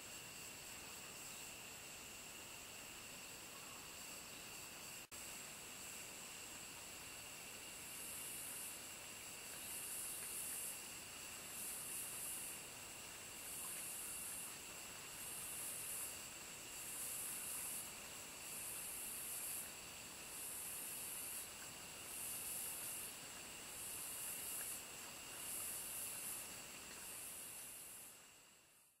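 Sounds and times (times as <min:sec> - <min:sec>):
cicadas buzzing in pulses: 0:00.0 - 0:29.0
high insect drone: 0:00.0 - 0:29.0.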